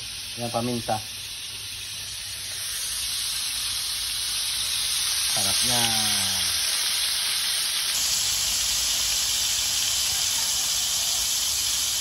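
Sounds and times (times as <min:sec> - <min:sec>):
liver sizzling in a pan: 0:00.0 - 0:12.0.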